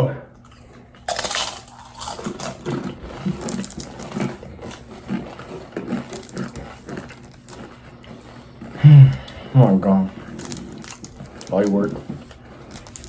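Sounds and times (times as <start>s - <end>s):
chips being crunched: 0.4s - 8.4s, 9.1s - 13.0s.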